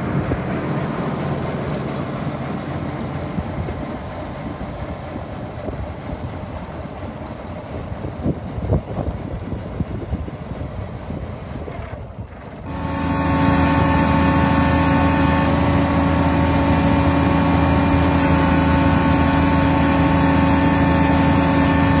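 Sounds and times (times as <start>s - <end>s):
tractor diesel engine running: 0.0s - 22.0s
wind: 0.0s - 22.0s.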